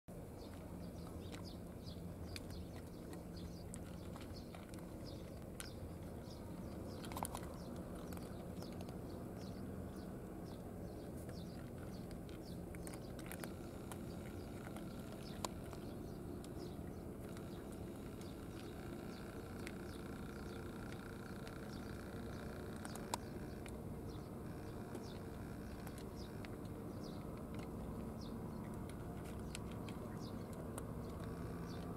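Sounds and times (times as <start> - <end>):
low outdoor hum: 0.1 - 31.9
small birds chirping: 0.1 - 31.9.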